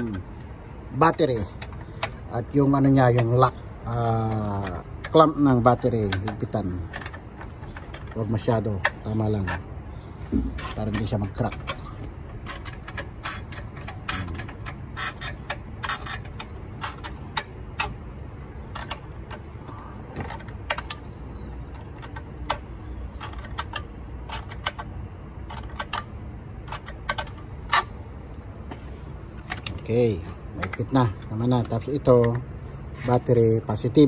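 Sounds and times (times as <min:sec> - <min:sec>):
wrench clicking on metal: 0:00.9 - 0:28.6.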